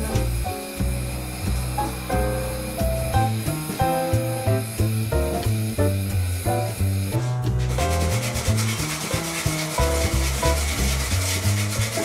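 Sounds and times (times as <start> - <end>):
background music with bass: 0.0 - 12.0
wire brush scrubbing metal: 0.1 - 12.0.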